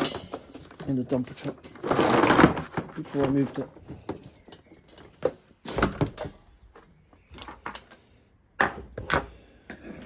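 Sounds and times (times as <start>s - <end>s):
hard objects knocking and clunking: 0.0s - 8.0s, 8.6s - 10.0s.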